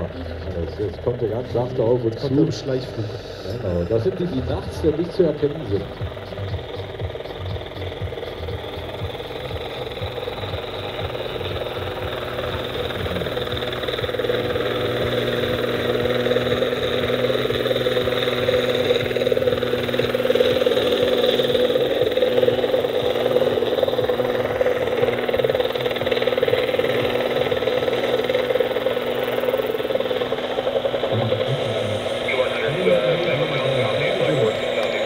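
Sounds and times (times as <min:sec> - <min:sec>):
model helicopter hovering: 0:00.0 - 0:35.0.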